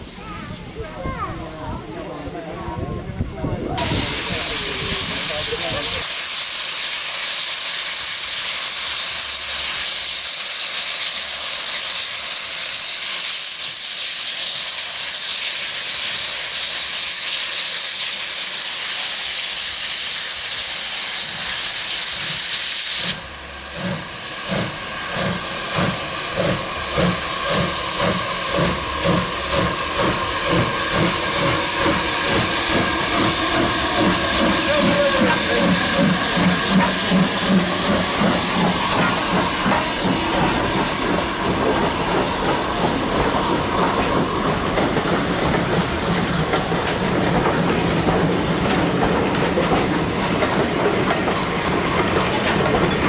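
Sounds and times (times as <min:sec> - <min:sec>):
steam locomotive exhaust beats: 0:03.2 - 0:53.0
steam hissing: 0:03.6 - 0:53.0.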